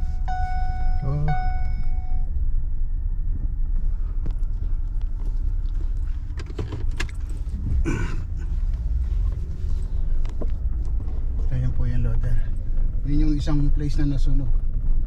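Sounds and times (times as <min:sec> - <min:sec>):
truck rumble inside cab: 0:00.0 - 0:15.0.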